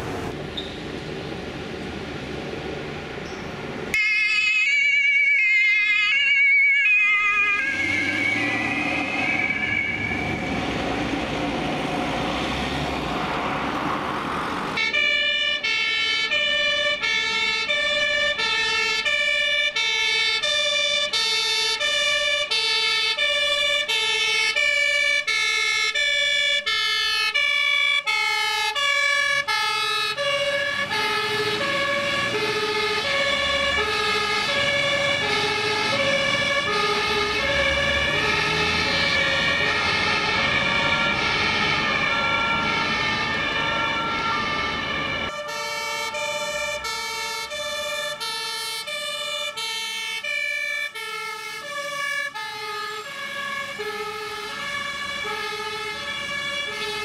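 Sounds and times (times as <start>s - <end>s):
engine and road noise: 0.0s - 57.0s
two-tone emergency siren: 3.9s - 57.0s.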